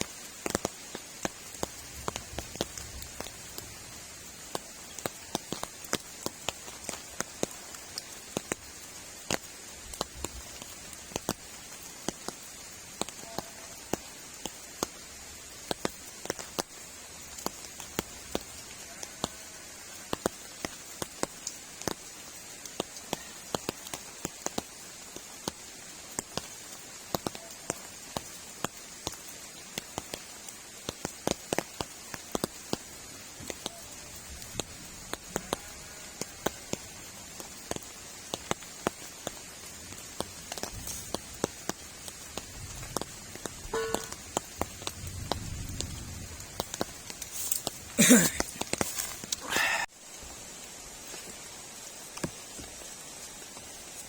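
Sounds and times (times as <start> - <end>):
rain drops tapping: 0.0 - 54.0
rain hiss: 0.0 - 54.0.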